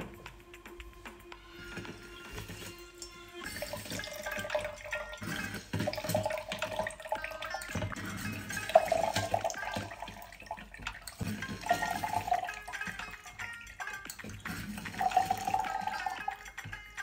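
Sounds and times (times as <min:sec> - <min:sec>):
juice trickling and dripping: 0:00.0 - 0:17.0.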